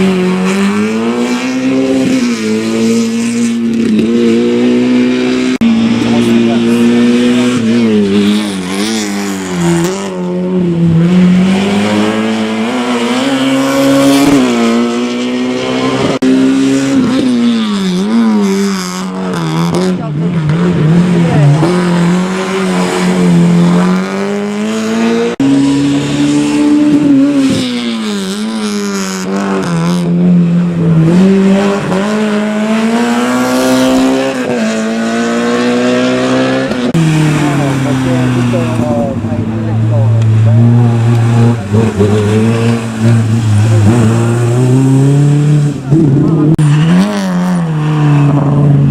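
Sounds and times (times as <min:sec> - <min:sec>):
rally car engine revving: 0:00.0 - 0:48.9.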